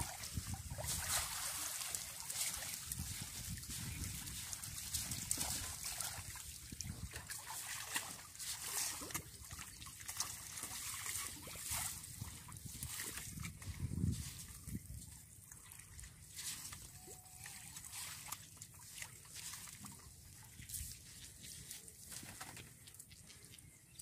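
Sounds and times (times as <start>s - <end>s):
water dripping through net: 0.0s - 24.0s
water trickling and splashing: 0.0s - 24.0s.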